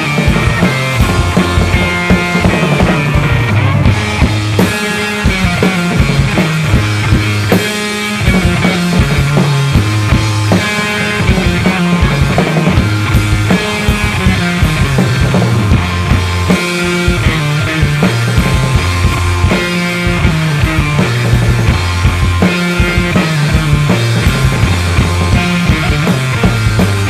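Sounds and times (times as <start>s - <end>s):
drumming with cymbals: 0.0s - 27.0s
electric guitar low notes: 0.0s - 27.0s.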